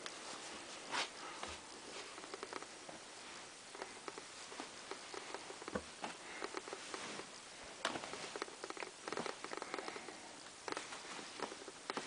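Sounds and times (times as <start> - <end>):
clothes rustling: 0.0 - 12.0.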